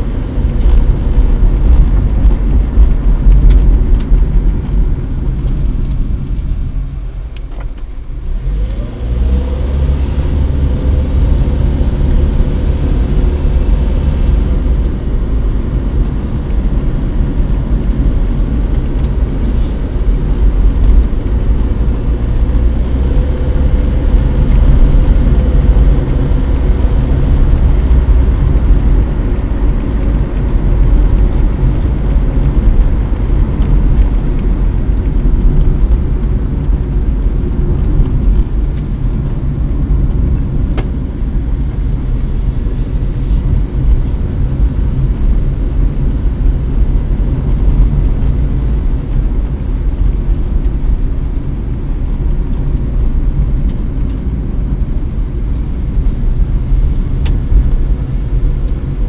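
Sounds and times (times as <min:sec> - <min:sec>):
engine and tyre rumble: 0:00.0 - 0:59.0.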